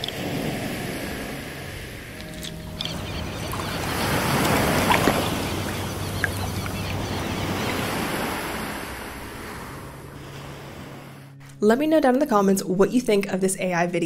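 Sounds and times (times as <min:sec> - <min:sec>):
ocean wave washing in: 0:00.0 - 0:11.4.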